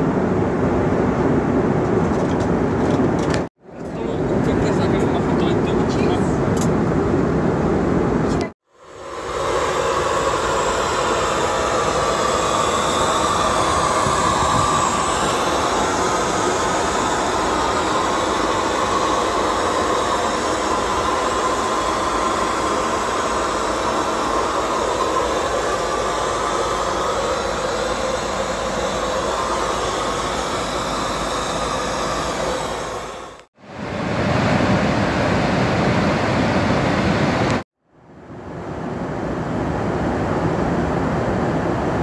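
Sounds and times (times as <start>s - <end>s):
aircraft cabin air rush: 0.0s - 37.6s, 38.2s - 42.0s.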